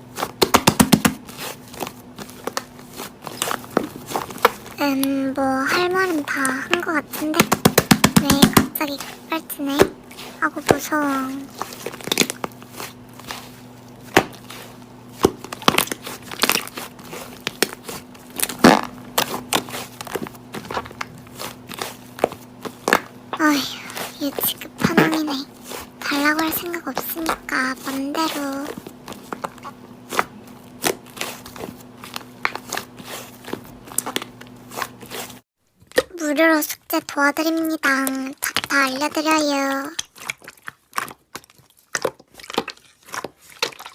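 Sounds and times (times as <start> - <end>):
faint steady hum: 0.0 - 40.8
slime crackling and popping: 0.3 - 35.2, 38.0 - 43.9.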